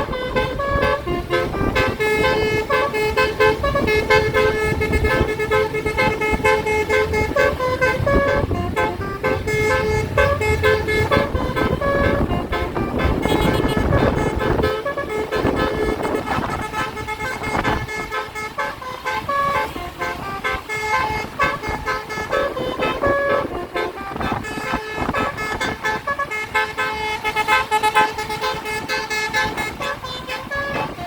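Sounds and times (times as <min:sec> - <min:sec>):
bus horn playing a tune: 0:00.0 - 0:31.0
road and engine noise: 0:00.0 - 0:31.0.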